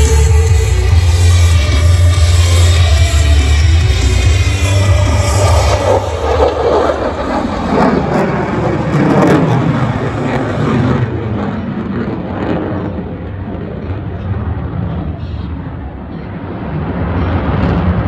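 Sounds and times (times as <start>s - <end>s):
jet fighter engines roaring: 0.0s - 18.0s.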